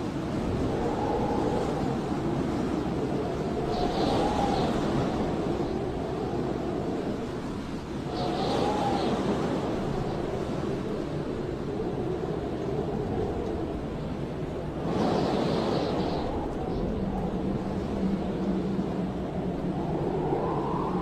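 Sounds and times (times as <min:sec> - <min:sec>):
blizzard wind blowing hard: 0:00.0 - 0:21.0
low moaning wind whistle: 0:00.0 - 0:21.0.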